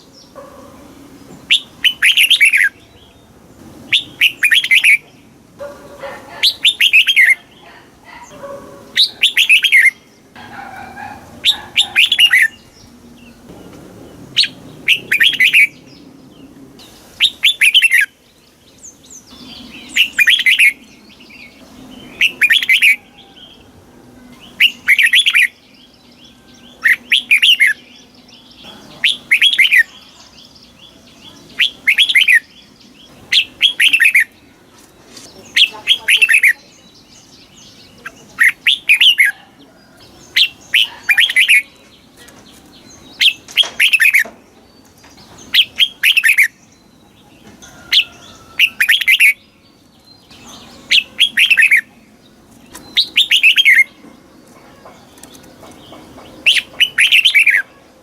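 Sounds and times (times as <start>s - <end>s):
bird singing warbled phrases: 0.0s - 58.0s
quieter lower bird sounds: 0.0s - 58.0s.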